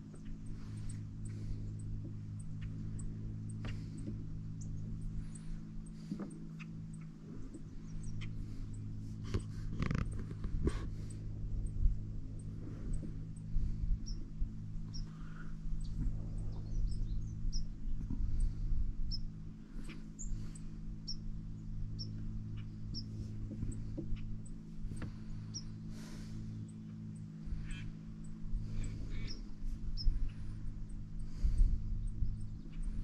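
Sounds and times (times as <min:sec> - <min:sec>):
small bird chirping: 0:00.0 - 0:10.4, 0:11.0 - 0:33.0
steady low hum: 0:00.0 - 0:33.0.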